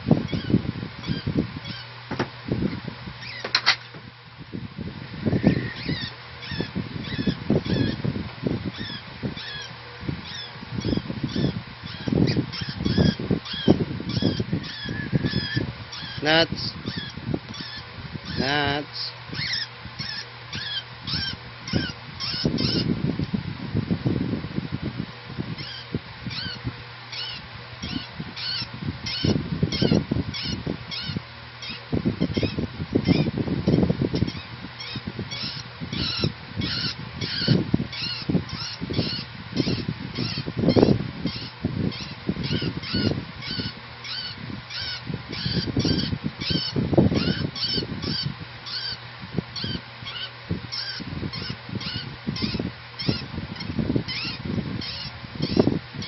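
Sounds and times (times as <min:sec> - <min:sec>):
bird shrill chirps: 0:05.4 - 0:08.0, 0:08.7 - 0:22.9, 0:25.6 - 0:49.0, 0:49.6 - 0:55.7.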